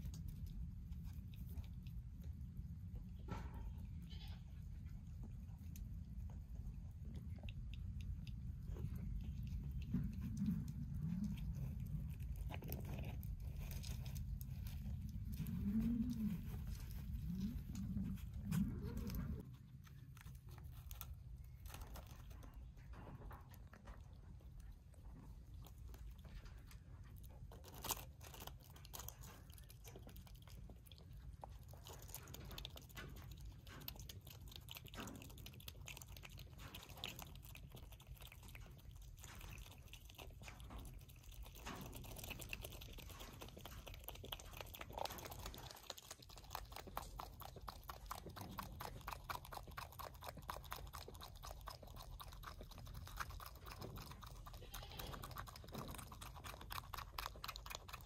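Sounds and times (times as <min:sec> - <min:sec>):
teeth crunching on eggshell: 0:05.3 - 0:58.0.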